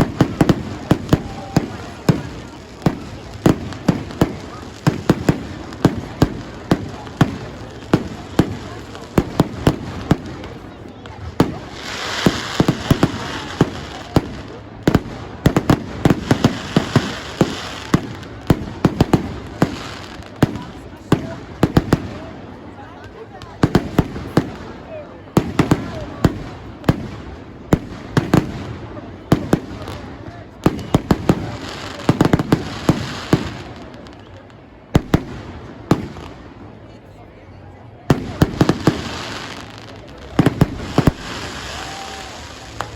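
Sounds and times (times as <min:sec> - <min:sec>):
firecrackers banging: 0:00.0 - 0:36.9, 0:38.0 - 0:42.9.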